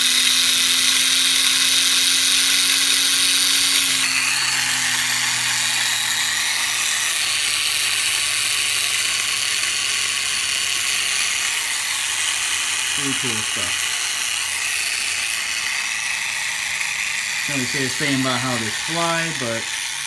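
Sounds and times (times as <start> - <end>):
toy plane propellers whirring: 0.0 - 20.0.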